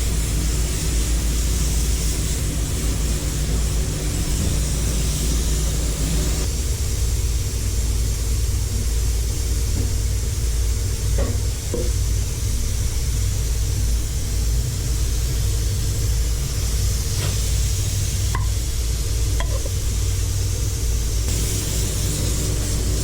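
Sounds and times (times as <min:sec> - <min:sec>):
sizzling hiss: 0:00.0 - 0:11.1, 0:11.9 - 0:23.0
steady machine hum: 0:00.0 - 0:23.0.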